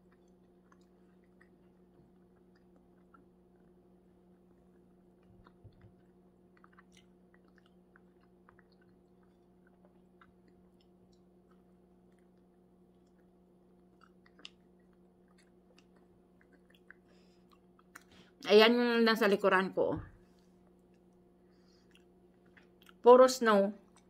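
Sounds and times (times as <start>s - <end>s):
person chewing: 0.0s - 18.4s, 20.3s - 23.0s.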